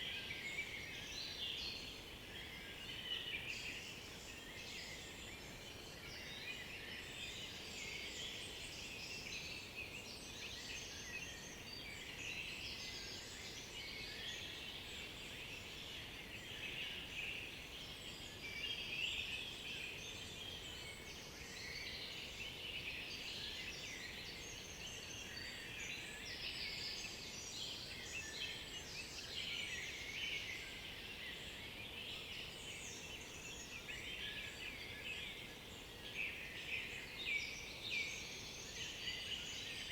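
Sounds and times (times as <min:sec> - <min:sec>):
chorus of songbirds: 0:00.0 - 0:39.9.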